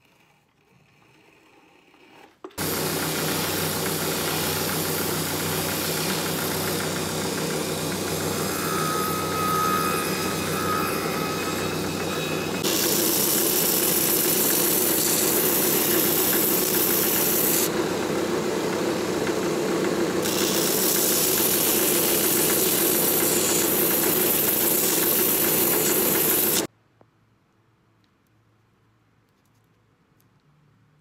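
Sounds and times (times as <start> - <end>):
sanding wheel grinding leather sole: 0.0 - 26.7.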